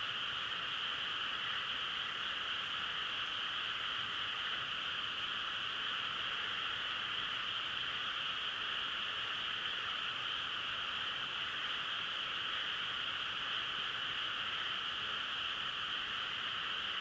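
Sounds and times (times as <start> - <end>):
chorus of frogs trilling: 0.0 - 17.0.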